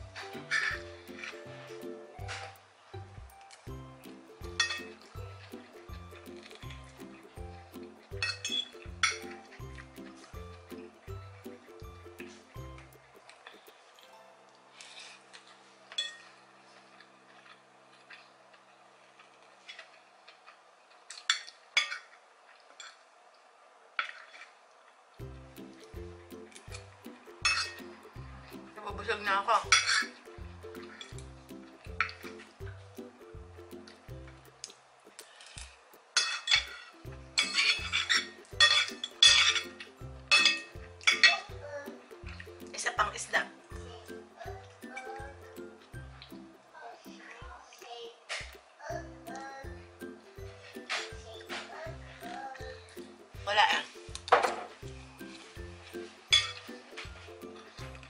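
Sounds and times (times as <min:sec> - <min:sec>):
background music: 0:00.0 - 0:15.4, 0:25.2 - 0:48.0, 0:48.6 - 0:58.0.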